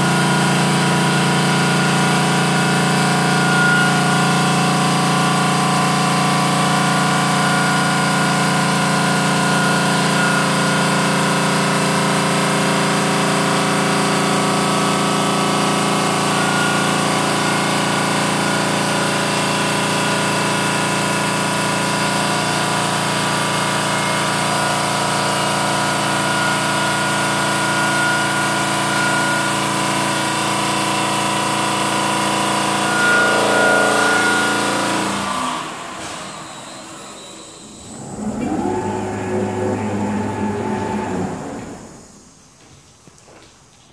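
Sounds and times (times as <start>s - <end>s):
stone saw blade whining: 0.0s - 42.2s.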